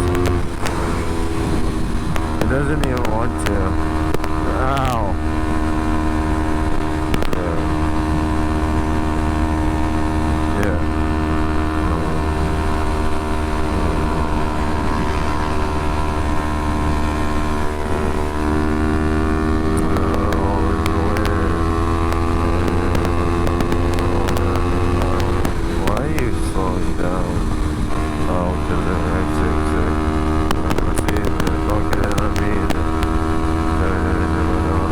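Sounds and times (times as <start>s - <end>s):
motorcycle engine running: 0.0s - 34.9s
wind rumble on microphone: 0.0s - 34.9s.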